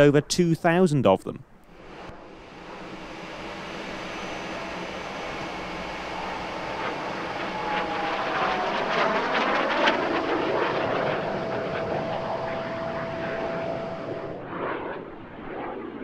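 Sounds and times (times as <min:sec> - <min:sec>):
jet engine running: 0:01.6 - 0:16.0
whine gliding down in pitch: 0:01.7 - 0:16.0.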